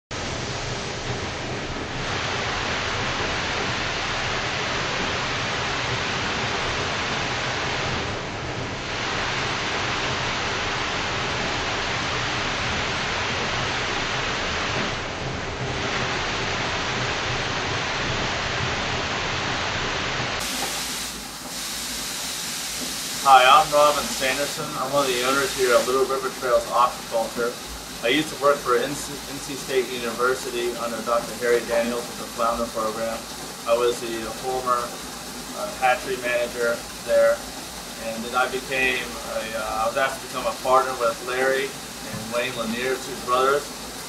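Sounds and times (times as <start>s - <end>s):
water rushing through plumbing: 0.1s - 44.0s.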